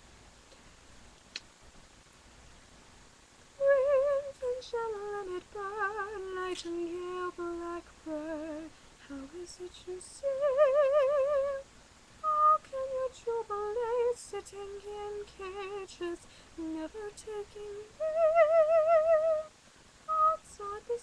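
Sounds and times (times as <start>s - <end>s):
woman singing unaccompanied: 3.6s - 19.5s, 20.1s - 21.0s.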